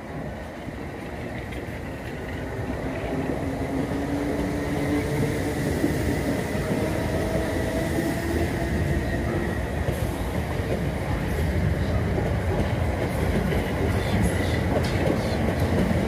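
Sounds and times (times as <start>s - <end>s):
train rail rumble: 0.0s - 16.0s.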